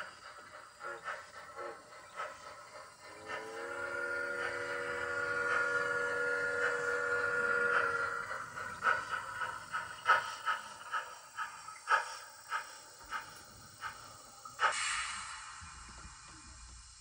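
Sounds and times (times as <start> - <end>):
steam hiss: 0.0 - 17.0
steam locomotive chuffing: 0.0 - 17.0.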